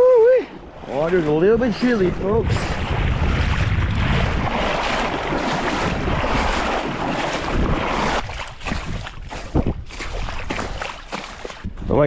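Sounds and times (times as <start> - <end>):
water sloshing around wading legs: 0.5 - 12.0
wind rumble on microphone: 0.8 - 12.0.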